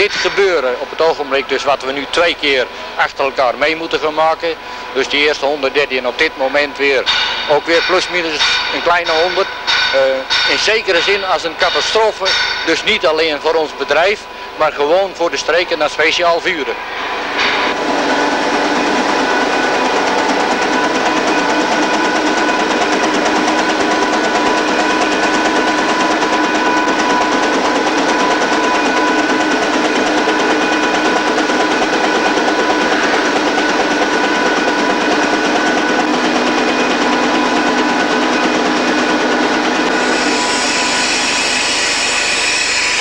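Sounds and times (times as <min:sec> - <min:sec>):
factory machinery din: 0:00.0 - 0:43.0.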